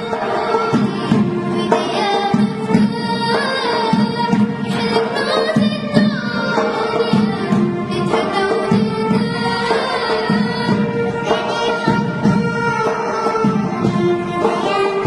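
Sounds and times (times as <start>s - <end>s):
instrumental accompaniment: 0.0s - 15.0s.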